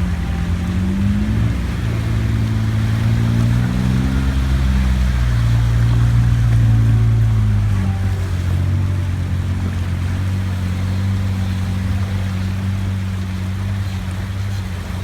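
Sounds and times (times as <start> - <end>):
vehicle engine running under load: 0.0 - 15.0.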